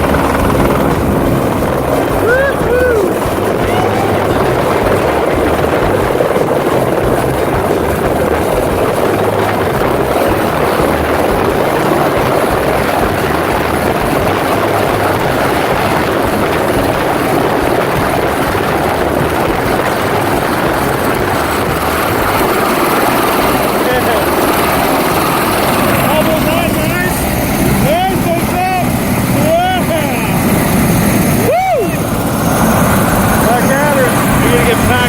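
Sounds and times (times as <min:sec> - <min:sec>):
helicopter rotor and turbine: 0:00.0 - 0:35.0.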